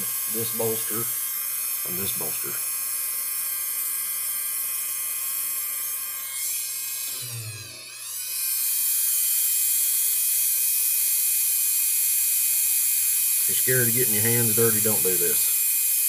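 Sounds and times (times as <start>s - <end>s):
rotary tool whining: 0.0s - 16.0s.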